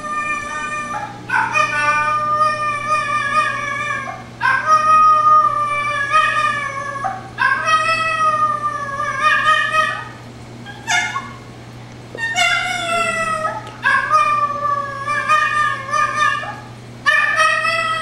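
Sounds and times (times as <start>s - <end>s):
dog howling: 0.0s - 11.4s, 12.2s - 18.0s
dog yelp: 0.0s - 11.4s, 12.2s - 18.0s.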